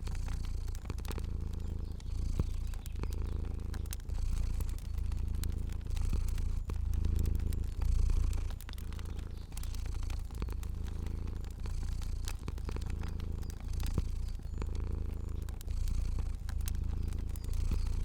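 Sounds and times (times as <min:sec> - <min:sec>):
cat purring: 0:00.0 - 0:18.0
fire crackling: 0:00.0 - 0:18.0.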